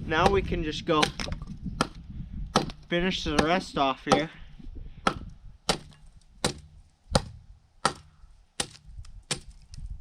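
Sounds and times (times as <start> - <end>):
hatchet chopping log: 0.1 - 4.4, 5.0 - 9.7.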